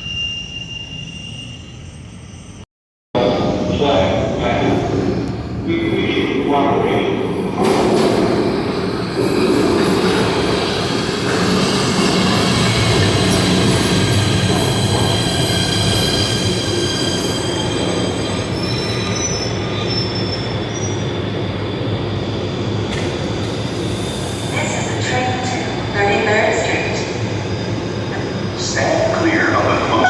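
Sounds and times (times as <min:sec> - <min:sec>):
rumble of train cars: 0:00.0 - 0:02.6, 0:03.2 - 0:30.0
train wheels squealing on rails: 0:00.0 - 0:02.6, 0:08.0 - 0:30.0.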